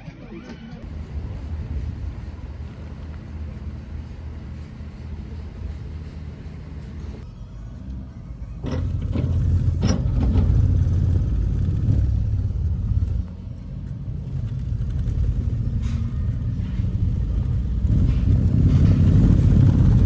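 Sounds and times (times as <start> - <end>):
vehicle rumbling in motion: 0.0 - 20.0.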